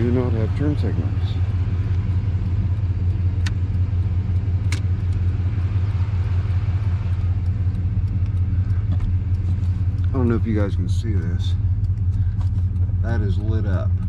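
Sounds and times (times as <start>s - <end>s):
sharp clicks: 0.0s - 14.0s
vehicle engine idling: 0.0s - 14.0s.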